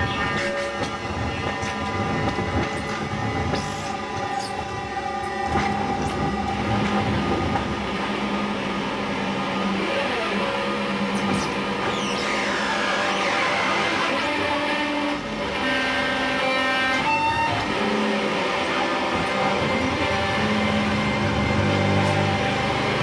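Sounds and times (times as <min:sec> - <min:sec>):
held drone tones: 0:00.0 - 0:23.0
low humming drone: 0:00.0 - 0:23.0
wall of dense noise music: 0:00.0 - 0:23.0.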